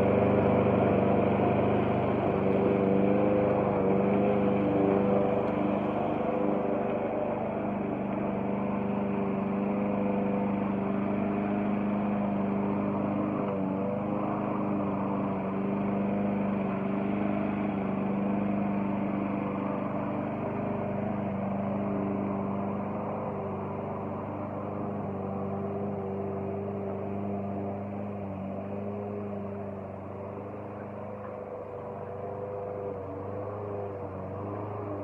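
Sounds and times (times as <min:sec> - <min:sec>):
lawn mower engine running: 0:00.0 - 0:35.0.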